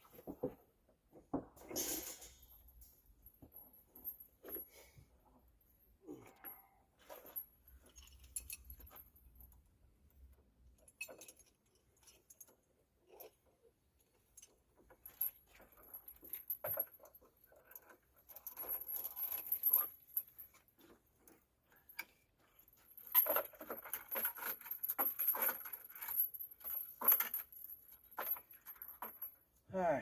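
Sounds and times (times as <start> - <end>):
steel chain clinking and rattling: 0.0 - 29.6.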